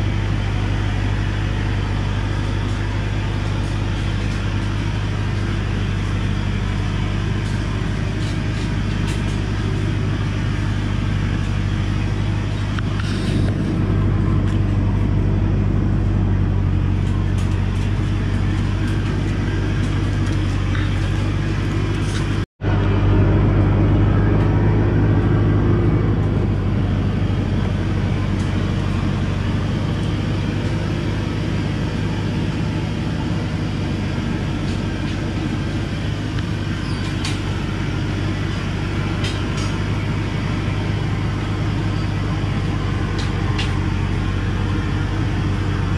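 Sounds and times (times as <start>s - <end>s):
diesel truck engine droning: 0.0s - 45.9s.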